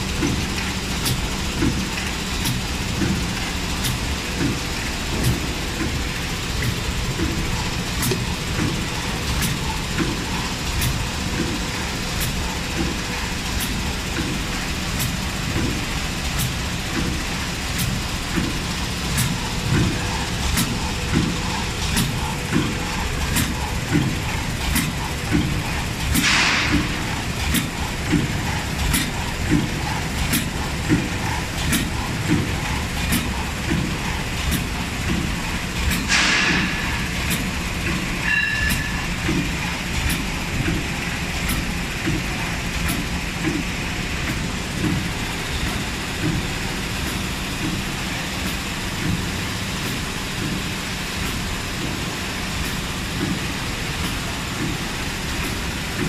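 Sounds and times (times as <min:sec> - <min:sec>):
packing machine hum and clacking: 0:00.0 - 0:56.0.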